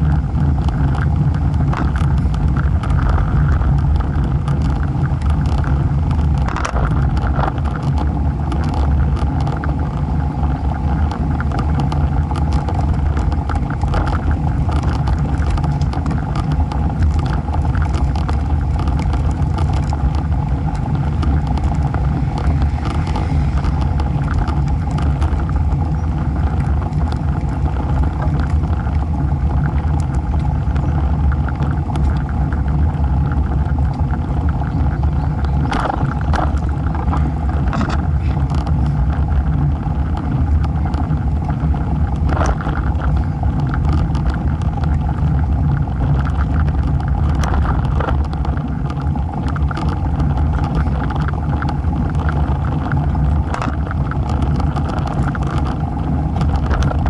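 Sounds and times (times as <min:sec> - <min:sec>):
bike tyre noise on asphalt: 0:00.0 - 0:57.0
wind rumble on microphone: 0:00.0 - 0:57.0.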